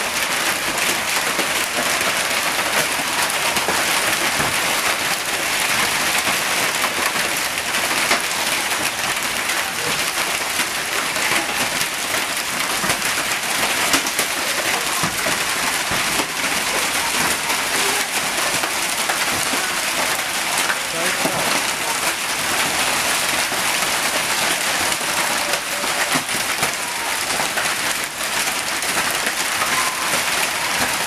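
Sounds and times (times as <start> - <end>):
hail pelting down: 0.0 - 31.0
heavy rain: 0.0 - 31.0.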